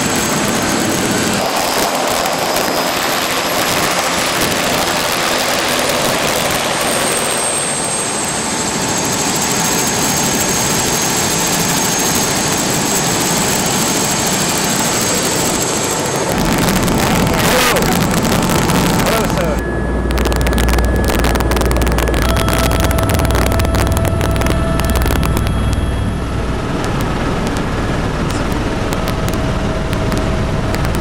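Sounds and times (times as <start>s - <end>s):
helicopter engine and rotor: 0.0s - 31.0s.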